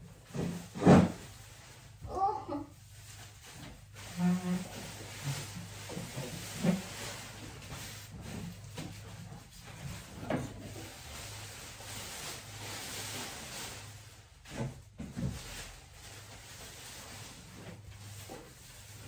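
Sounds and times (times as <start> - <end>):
tablecloth rustling: 0.2 - 19.0.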